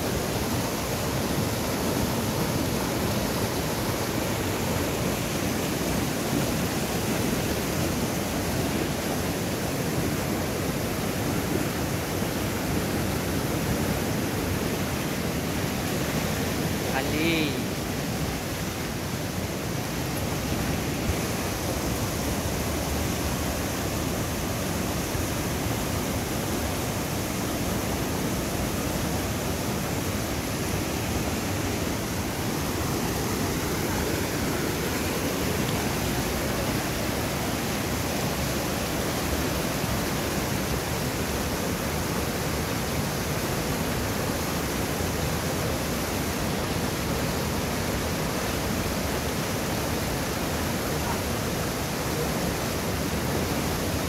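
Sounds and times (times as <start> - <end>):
fast-flowing river rushing: 0.0 - 54.0.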